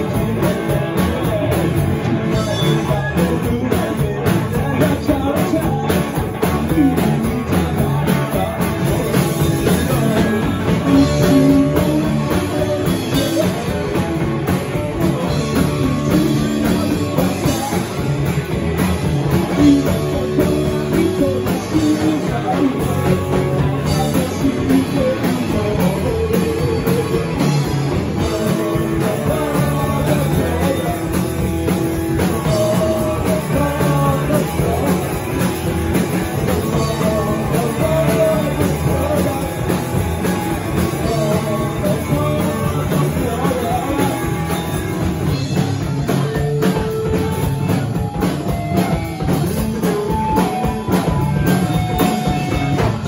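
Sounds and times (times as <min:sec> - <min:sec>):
drum kit: 0:00.0 - 0:53.0
electric bass: 0:00.0 - 0:53.0
electric guitar: 0:00.0 - 0:53.0
lead singer singing: 0:00.0 - 0:53.0.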